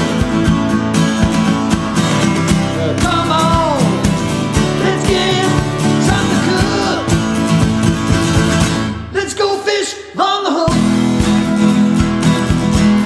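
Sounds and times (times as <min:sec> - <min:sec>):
country song with vocals and guitar: 0:00.0 - 0:13.0.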